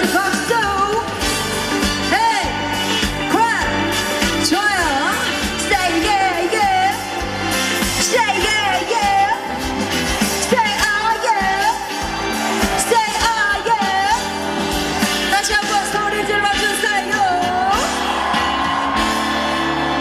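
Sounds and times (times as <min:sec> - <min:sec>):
pop backing music: 0:00.0 - 0:20.0.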